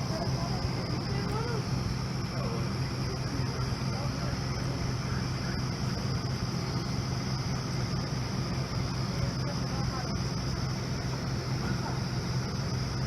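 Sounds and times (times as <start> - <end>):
faint distant voices: 0.0 - 13.0
high whine: 0.0 - 13.0
low mechanical hum: 0.0 - 13.0.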